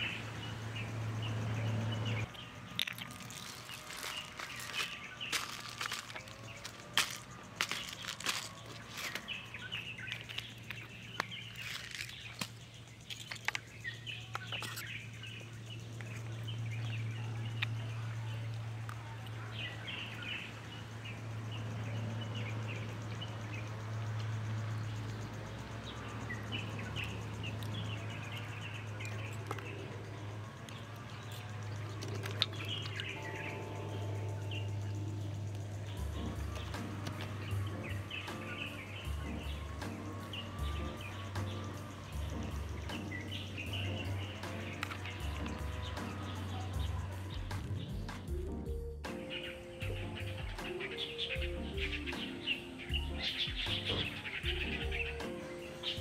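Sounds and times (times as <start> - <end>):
steady low hum: 0.0 - 49.1
small birds chirping trills: 0.0 - 56.0.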